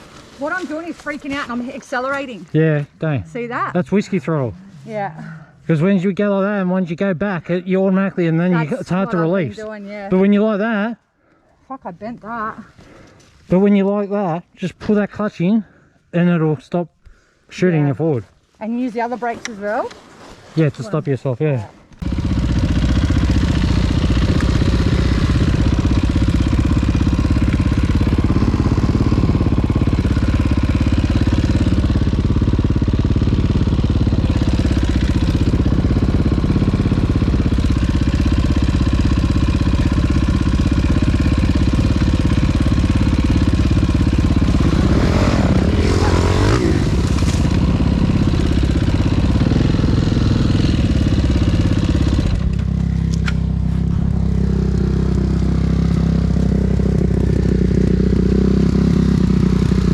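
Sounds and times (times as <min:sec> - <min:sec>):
dirt bike engine running: 0:00.0 - 0:10.8, 0:22.0 - 0:59.9.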